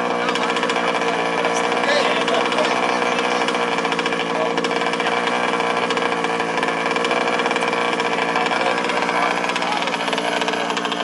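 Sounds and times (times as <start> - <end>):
small two-stroke engines buzzing: 0.0 - 11.0.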